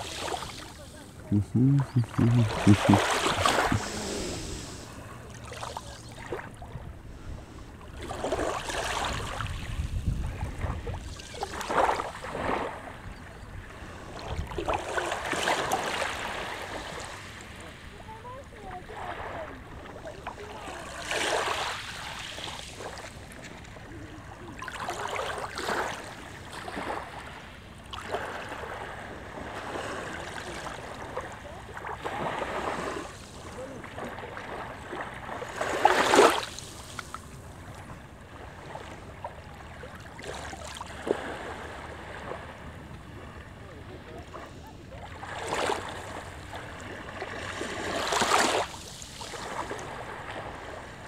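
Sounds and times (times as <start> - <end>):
small waves washing on sand: 0.0 - 51.0.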